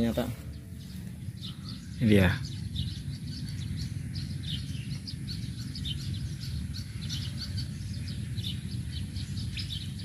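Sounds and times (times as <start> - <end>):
small birds chirping: 0.0 - 10.0
steady low rumble: 0.0 - 10.0.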